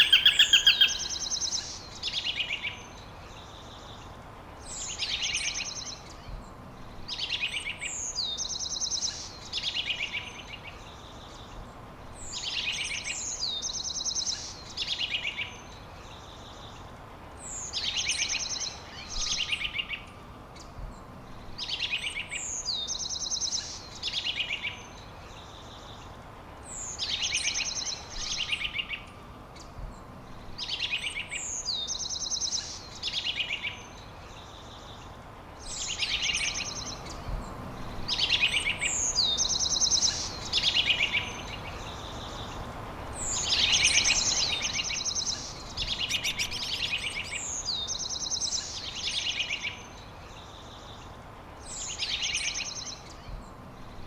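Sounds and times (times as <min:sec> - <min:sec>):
songbird chirping and trilling: 0:00.0 - 0:11.6, 0:12.2 - 0:54.0
steady background hiss: 0:00.0 - 0:54.0.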